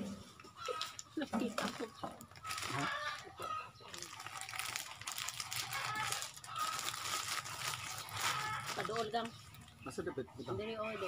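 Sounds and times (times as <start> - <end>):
plastic wrappers crinkling: 0.4 - 9.7.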